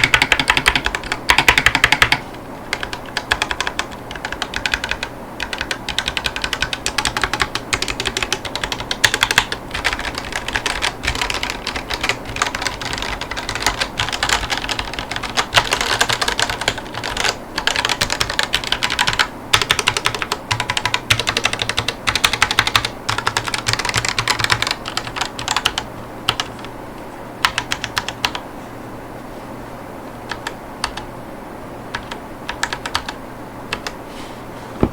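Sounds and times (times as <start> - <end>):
typing on mechanical keyboard: 0.0 - 26.6, 27.4 - 28.4, 30.3 - 31.0, 31.9 - 34.0.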